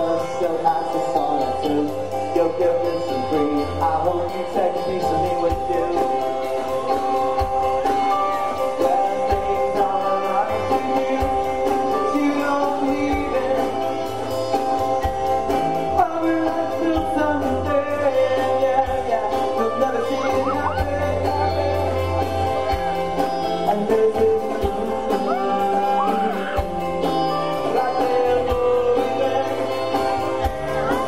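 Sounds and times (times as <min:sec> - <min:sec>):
man singing: 0:00.0 - 0:31.0
rock band guitars and bass: 0:00.0 - 0:31.0.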